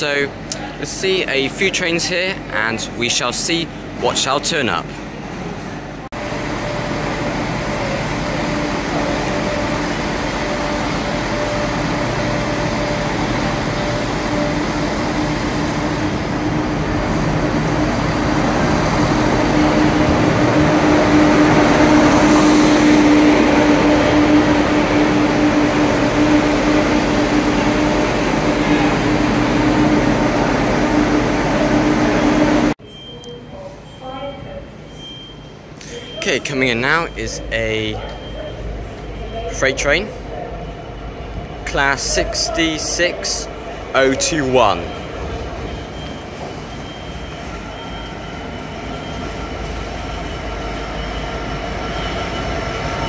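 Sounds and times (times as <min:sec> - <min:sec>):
diesel train engine hum: 0:00.0 - 0:32.8, 0:36.8 - 0:53.0.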